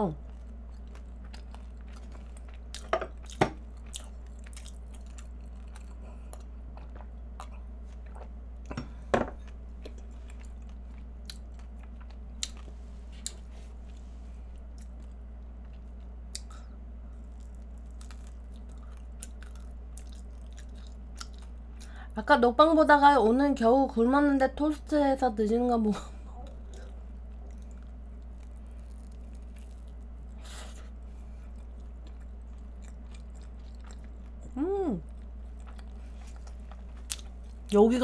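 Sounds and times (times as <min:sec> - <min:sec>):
steady low hum: 0:00.0 - 0:38.0
quiet chewing and mouth clicks: 0:00.2 - 0:08.8, 0:09.4 - 0:22.0, 0:26.4 - 0:37.7.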